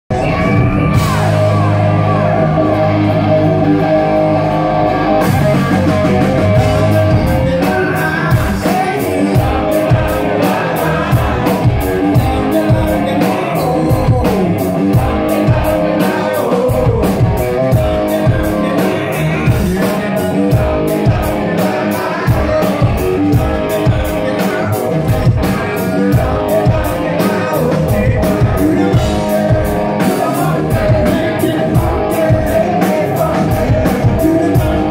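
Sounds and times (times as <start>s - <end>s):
drum kit with cymbals: 0.1s - 2.4s, 5.2s - 34.9s
electric bass: 0.1s - 34.9s
electric guitar: 0.1s - 34.9s
person singing: 0.1s - 34.9s.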